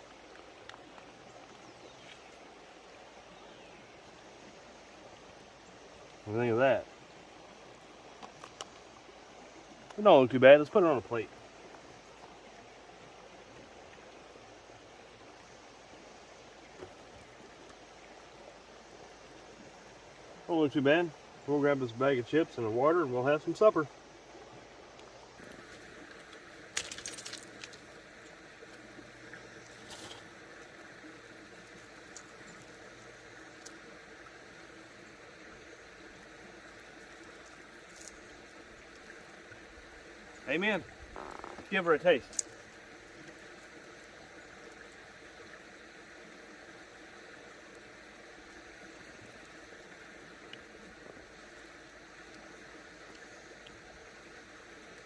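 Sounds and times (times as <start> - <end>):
running creek water: 0.0 - 55.0.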